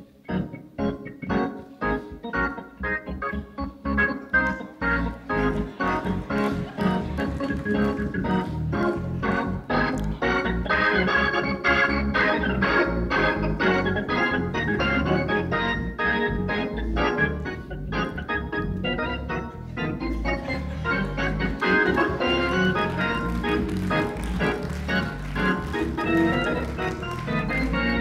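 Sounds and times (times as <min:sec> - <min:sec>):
organ bass line: 0:00.0 - 0:28.0
organ playing short chords: 0:00.0 - 0:28.0.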